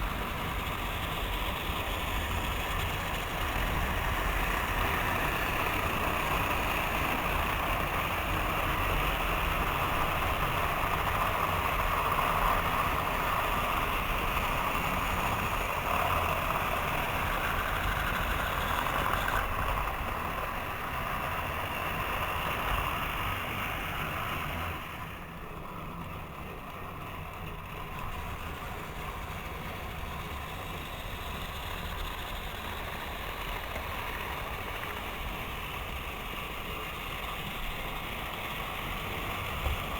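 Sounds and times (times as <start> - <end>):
model trains running on tracks: 0.0 - 39.9.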